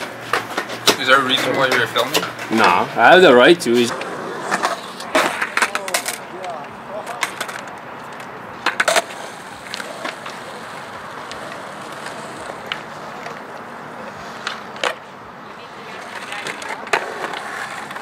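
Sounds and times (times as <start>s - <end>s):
skateboard clacks: 0.0s - 2.8s, 3.8s - 18.0s
skateboard rolling on concrete: 0.0s - 18.0s.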